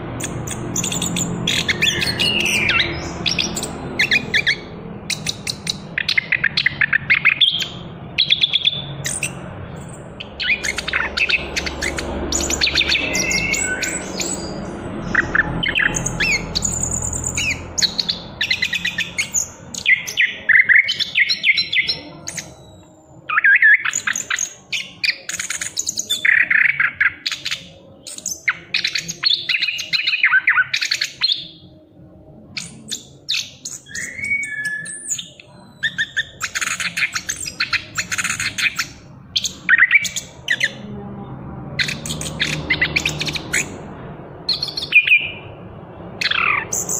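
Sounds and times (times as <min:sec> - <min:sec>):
thrush singing chirping phrases: 0:00.0 - 0:46.9.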